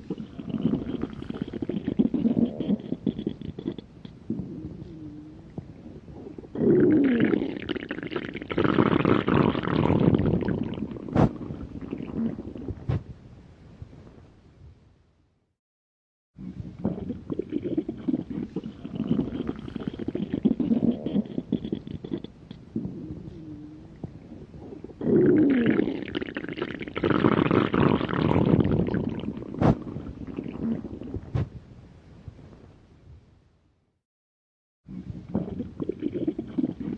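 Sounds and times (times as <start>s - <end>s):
stomach growling: 0.0s - 13.1s, 16.4s - 31.6s, 34.9s - 36.9s.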